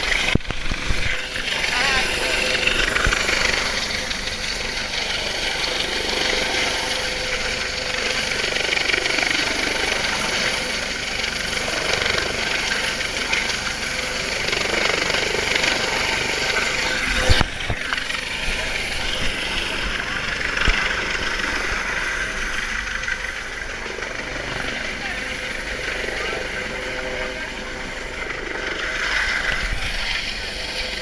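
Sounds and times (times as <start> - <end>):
helicopter rotor drone: 0.0 - 31.0
wind: 0.0 - 31.0.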